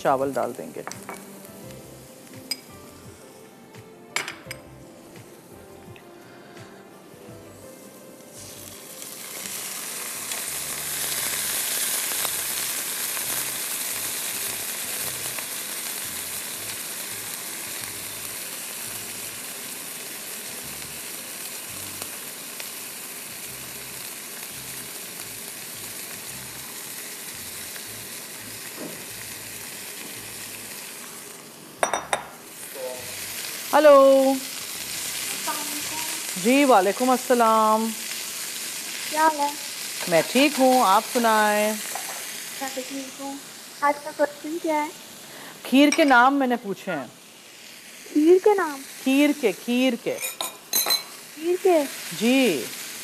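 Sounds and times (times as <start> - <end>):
hot oil sizzling in a wok: 0.0 - 3.4, 7.4 - 53.0.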